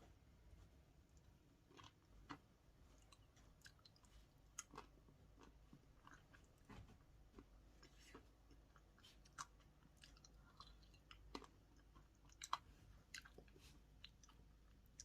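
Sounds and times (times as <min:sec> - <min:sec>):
chewing food: 0:01.0 - 0:15.0.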